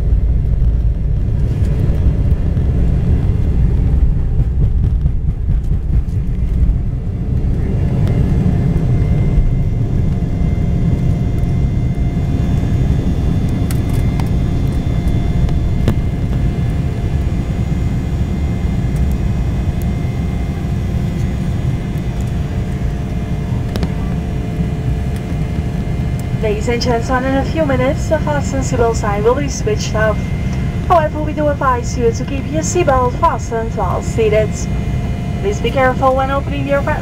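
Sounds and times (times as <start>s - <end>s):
faint steady whine: 0.0s - 37.0s
jet cabin engine rumble: 0.0s - 37.0s.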